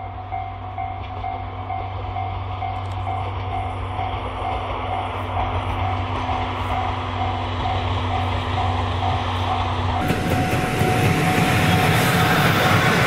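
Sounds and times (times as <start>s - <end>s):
train passing on rails: 0.0s - 13.0s.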